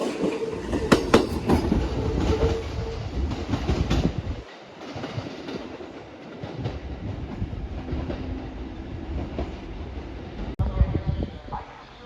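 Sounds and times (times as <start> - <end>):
electric train wheels clacking: 0.0 - 10.6
train rumble: 0.0 - 12.0.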